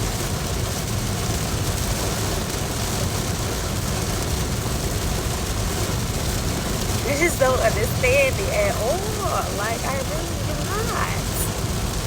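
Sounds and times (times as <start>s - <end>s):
rain on a car: 0.0s - 12.0s
tyres on wet road: 0.0s - 12.0s.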